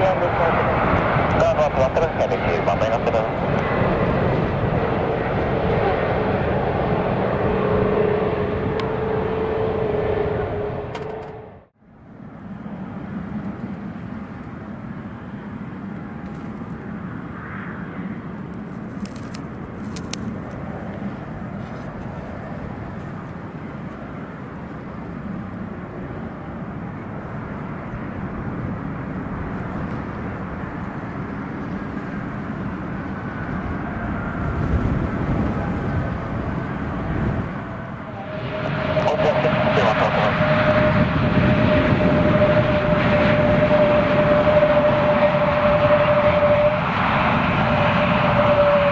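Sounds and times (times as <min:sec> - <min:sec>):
distant jet engines rumbling: 0:00.0 - 0:48.9.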